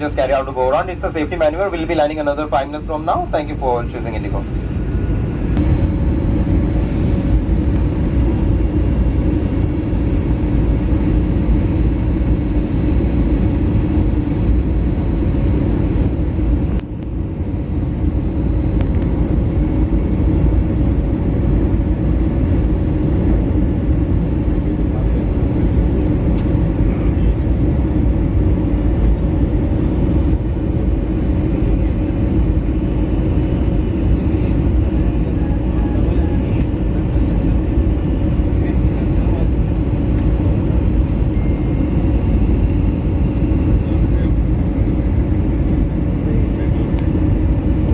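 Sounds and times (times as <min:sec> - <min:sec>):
aircraft cabin engine noise: 0:00.0 - 0:47.9
low steady hum: 0:00.0 - 0:47.9.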